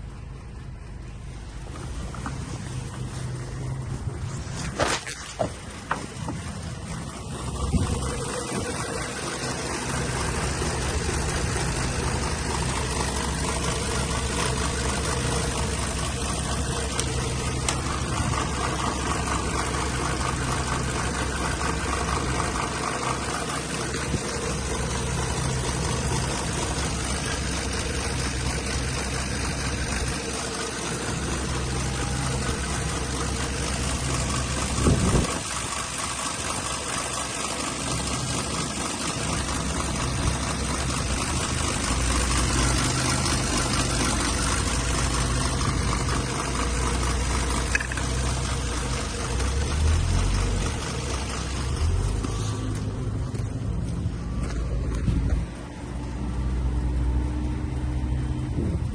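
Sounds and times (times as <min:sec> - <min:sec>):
petrol engine idling: 0:00.0 - 0:58.9.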